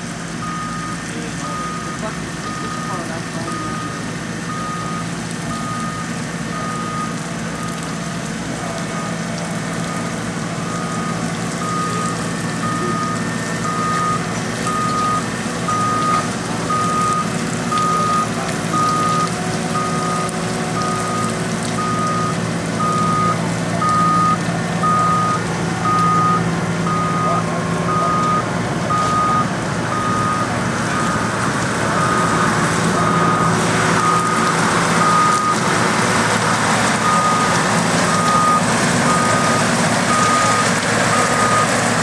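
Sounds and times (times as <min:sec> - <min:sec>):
diesel machinery drone: 0:00.0 - 0:42.0
back-up alarm beeping: 0:00.4 - 0:08.0, 0:09.8 - 0:35.7, 0:37.0 - 0:41.8.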